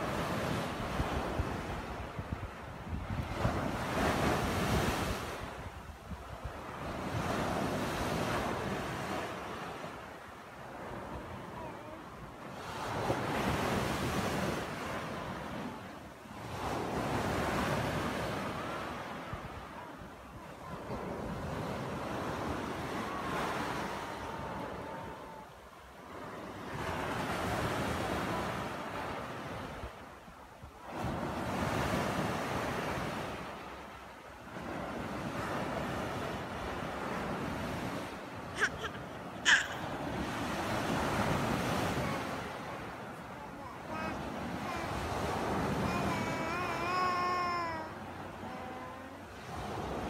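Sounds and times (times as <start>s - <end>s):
small waves breaking on sand: 0.0s - 50.0s.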